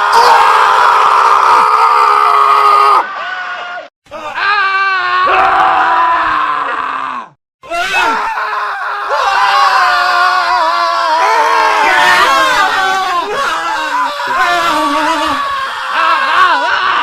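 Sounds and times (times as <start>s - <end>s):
men screaming: 0.0s - 17.0s.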